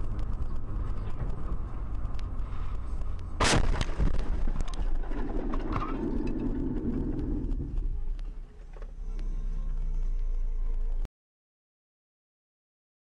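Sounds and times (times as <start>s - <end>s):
road noise inside car: 0.0s - 11.1s.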